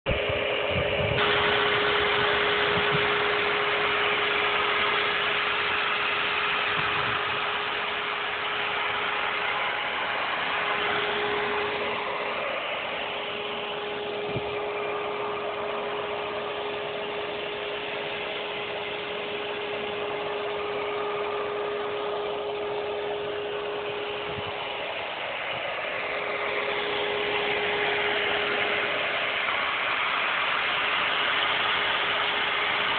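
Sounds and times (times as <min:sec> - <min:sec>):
power unit droning: 0:00.1 - 0:32.9.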